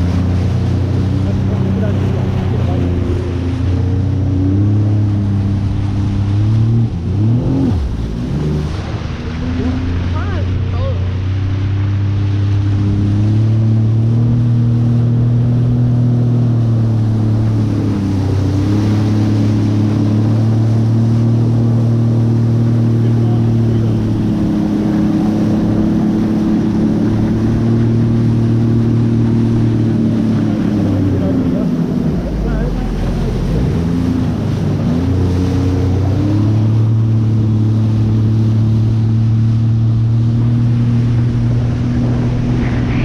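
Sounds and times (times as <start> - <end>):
jet ski engine running: 0.0 - 43.0
water rushing under hull: 0.0 - 43.0.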